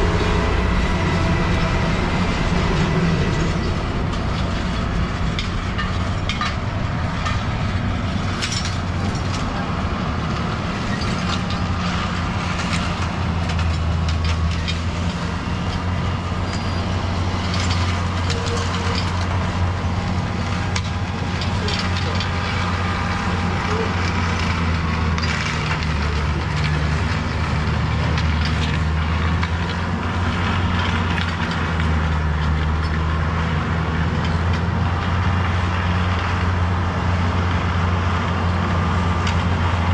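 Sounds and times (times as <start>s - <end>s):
train droning: 0.0s - 39.9s
wagons clicking and rattling: 0.0s - 39.9s.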